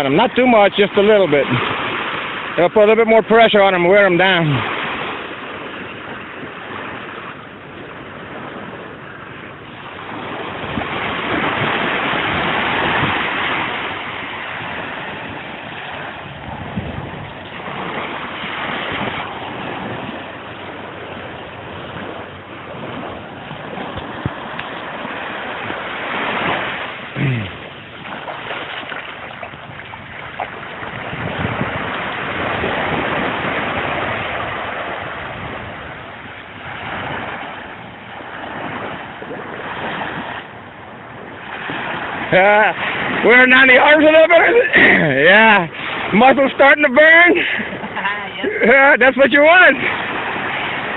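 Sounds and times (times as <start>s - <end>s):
waves washing up a beach: 0.0s - 50.9s.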